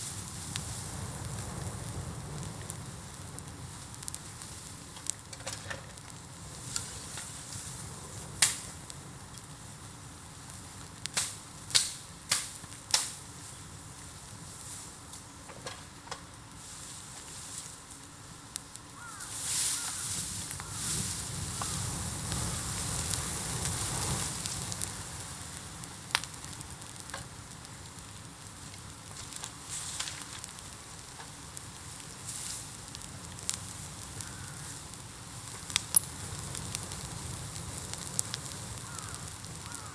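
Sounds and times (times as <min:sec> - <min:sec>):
bamboo fire crackling and popping: 0:00.0 - 0:39.9
fire hissing and sizzling: 0:00.0 - 0:39.9.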